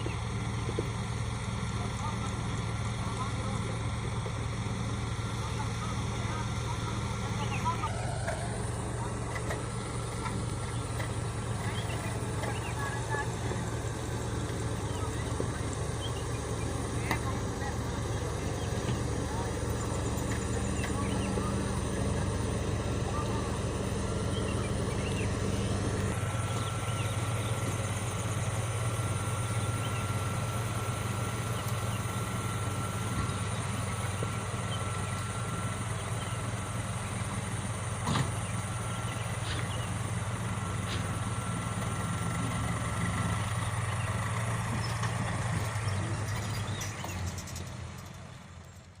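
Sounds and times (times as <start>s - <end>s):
diesel engine running: 0.0s - 49.0s
thin steady whine: 5.5s - 46.8s.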